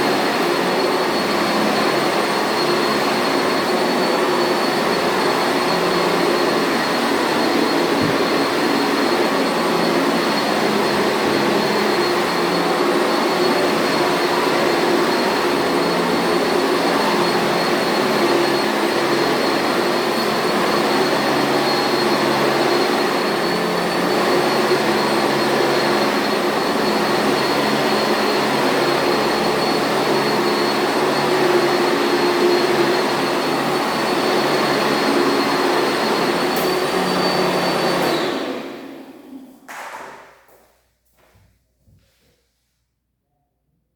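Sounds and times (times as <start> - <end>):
vacuum cleaner running: 0.0 - 40.6.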